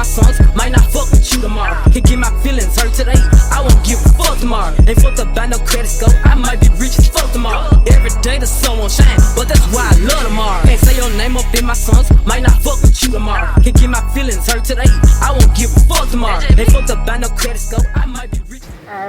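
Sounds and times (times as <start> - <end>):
rapping over hip hop beat: 0.0 - 19.0.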